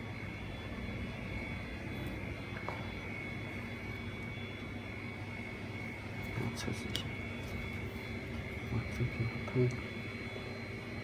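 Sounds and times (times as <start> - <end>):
low hum: 0.0 - 11.0
machinery drone: 0.0 - 11.0
thin high whine: 0.0 - 11.0.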